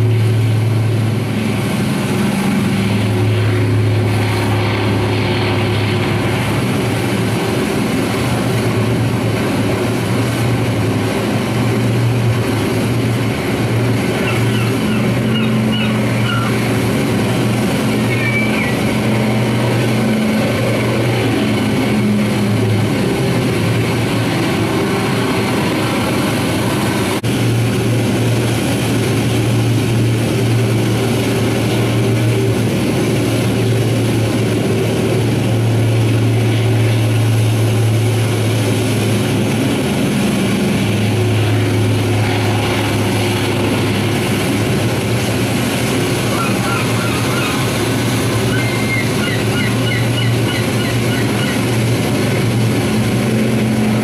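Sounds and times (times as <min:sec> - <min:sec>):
aircraft engines droning: 0:00.0 - 0:54.0.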